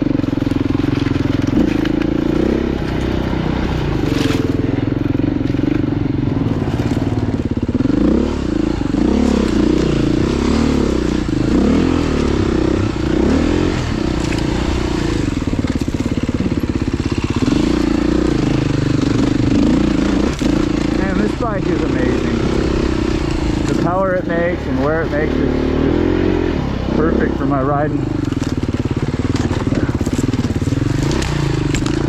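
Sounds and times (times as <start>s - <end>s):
off-road motorcycle engine revving: 0.0s - 32.0s.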